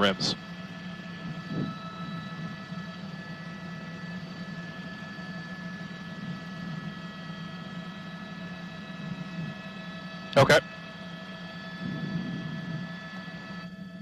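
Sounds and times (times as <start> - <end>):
helicopter cabin drone: 0.0 - 14.0
turbine whine: 0.0 - 14.0.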